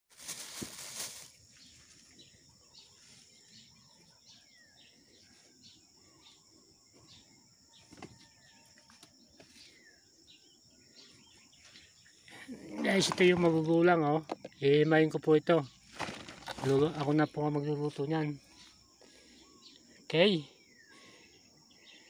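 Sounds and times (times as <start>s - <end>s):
birds chirping: 0.4s - 22.0s.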